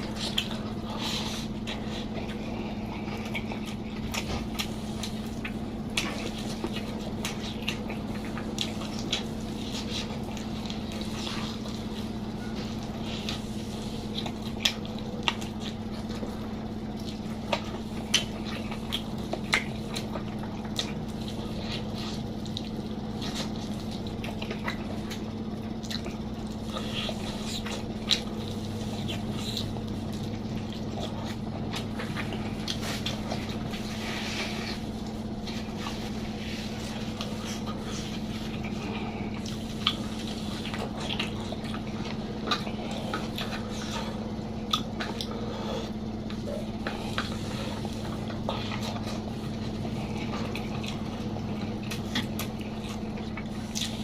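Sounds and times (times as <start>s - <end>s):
steady low hum: 0.0s - 54.0s
wet chewing and mouth smacking: 0.0s - 54.0s.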